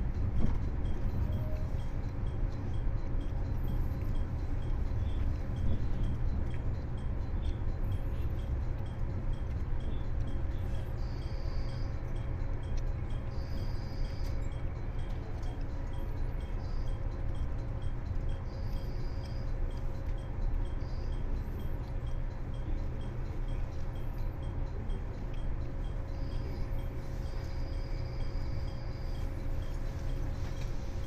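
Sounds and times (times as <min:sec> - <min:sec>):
faint hum: 0:00.0 - 0:31.0
faint regular ticking: 0:00.0 - 0:31.0
train rumble: 0:00.0 - 0:31.0.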